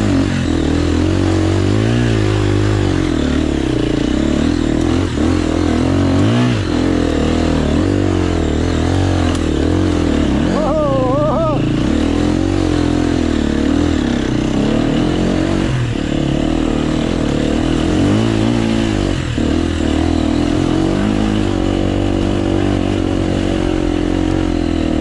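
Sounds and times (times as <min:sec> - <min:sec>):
motorcycle engine under load: 0:00.0 - 0:25.0.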